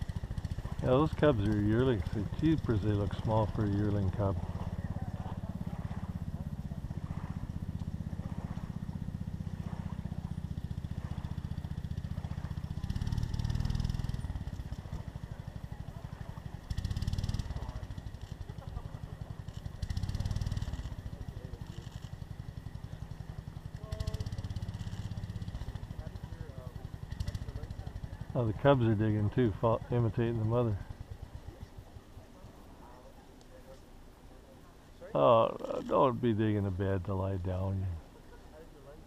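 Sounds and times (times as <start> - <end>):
motor engine running: 0.0 - 39.0.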